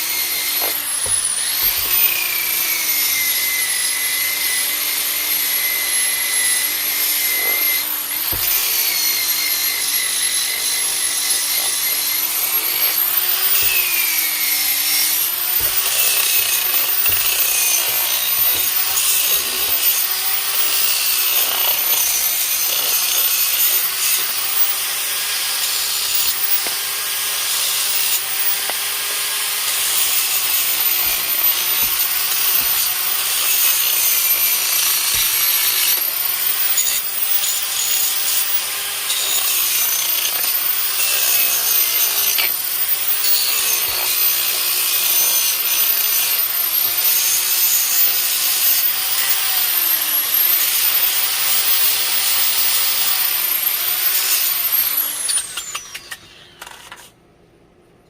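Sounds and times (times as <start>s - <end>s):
power tool motor whine: 0.0s - 57.1s.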